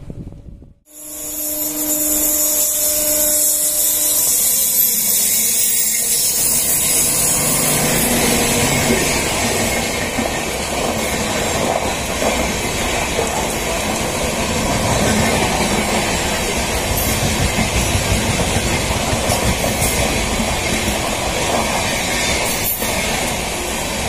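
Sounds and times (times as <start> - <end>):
electric locomotive whine: 0.0 - 24.0
train coaches rumbling past: 0.9 - 24.0.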